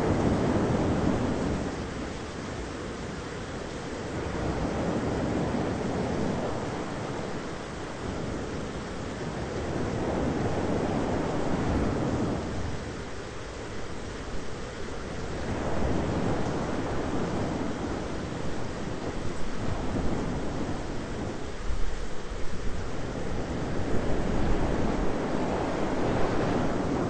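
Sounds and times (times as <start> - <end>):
thunderstorm rumble: 0.0 - 2.1, 4.1 - 27.0.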